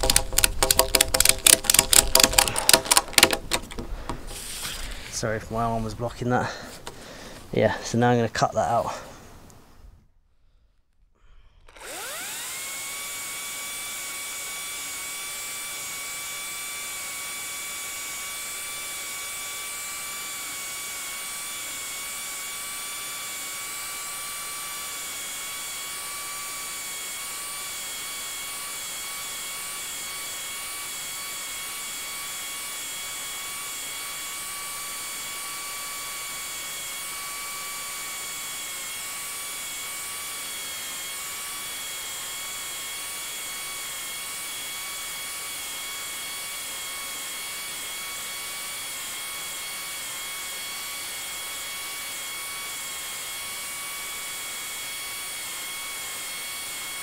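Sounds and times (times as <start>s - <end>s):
power tool motor whining: 0.0s - 5.2s, 11.6s - 57.0s.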